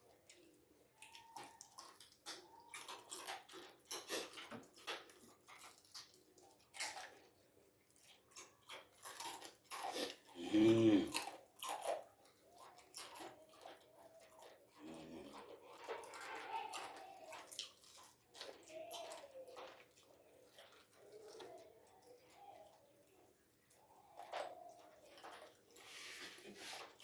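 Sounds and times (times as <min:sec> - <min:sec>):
person chewing bones: 0:00.0 - 0:27.0.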